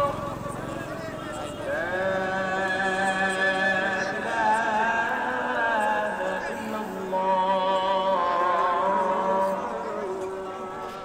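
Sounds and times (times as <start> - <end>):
person singing long held notes: 1.6 - 11.0.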